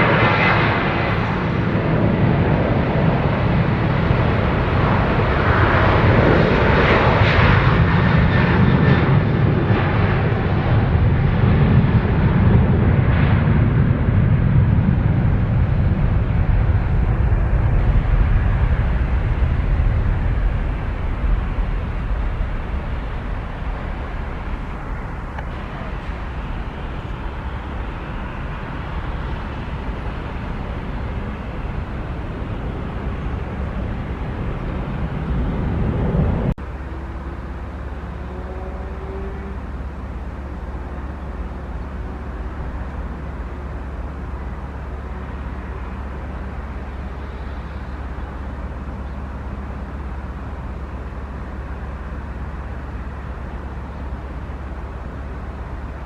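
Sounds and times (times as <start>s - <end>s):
jet airliner engines: 0.0s - 56.0s.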